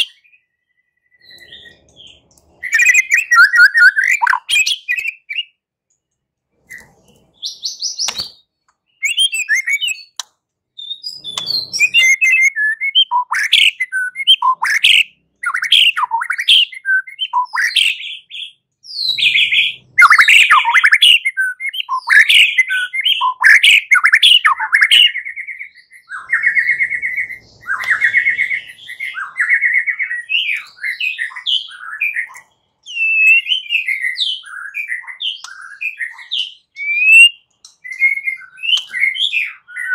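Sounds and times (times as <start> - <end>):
songbird singing whistles and trills: 0.0 - 5.6, 6.6 - 39.9.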